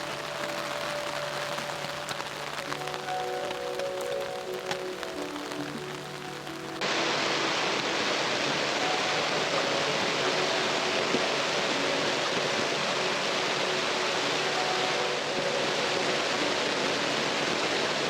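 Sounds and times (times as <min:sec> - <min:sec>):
background music: 0:00.0 - 0:18.0
steady rain: 0:00.0 - 0:18.0.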